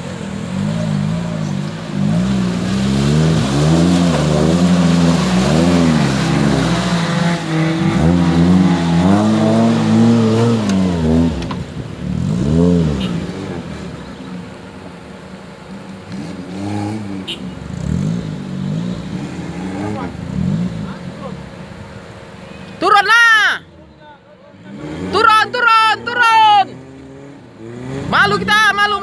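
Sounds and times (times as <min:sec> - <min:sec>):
off-road vehicle engine revving: 0:00.0 - 0:22.6, 0:24.4 - 0:29.0.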